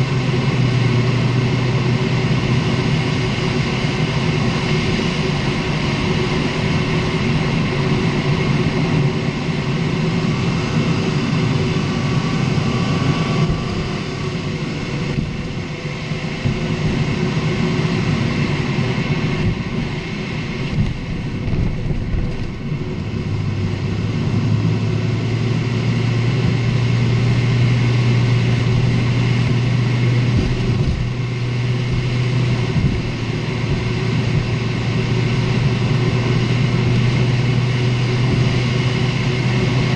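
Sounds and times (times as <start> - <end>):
car road noise: 0.0 - 39.9
low drone: 0.0 - 39.9.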